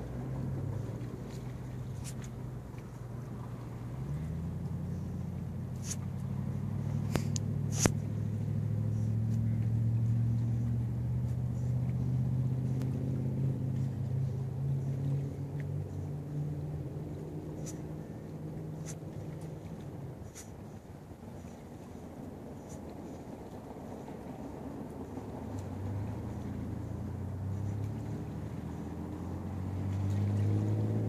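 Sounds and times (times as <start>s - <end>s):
low engine drone: 0.0s - 31.0s.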